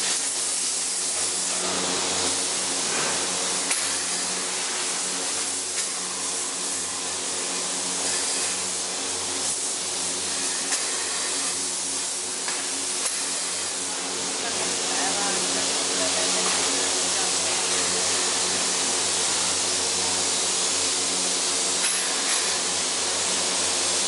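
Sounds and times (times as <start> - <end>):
loud machinery hiss: 0.0 - 24.0
low machine hum: 0.0 - 24.0.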